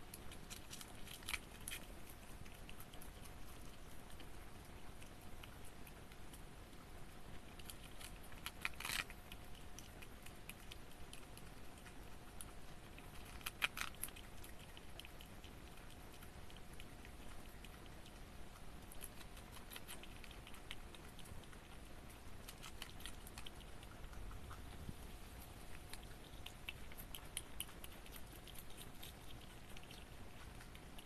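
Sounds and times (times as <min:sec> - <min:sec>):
squirrel crunching lettuce: 0:00.0 - 0:31.0.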